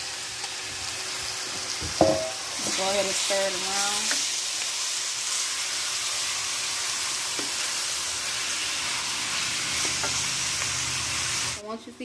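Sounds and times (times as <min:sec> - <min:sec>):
chicken sizzling in oil: 0:00.0 - 0:11.6.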